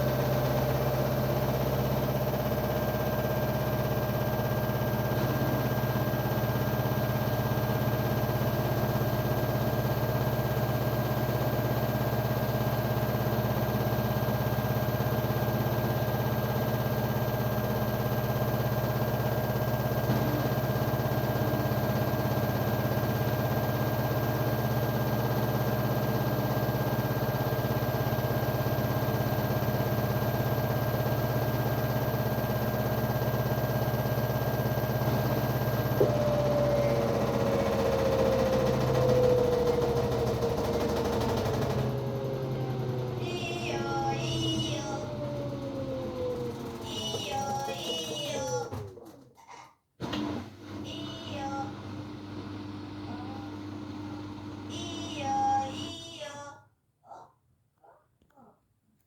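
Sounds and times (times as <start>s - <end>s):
washing machine spinning: 0.0s - 49.4s, 50.0s - 56.0s.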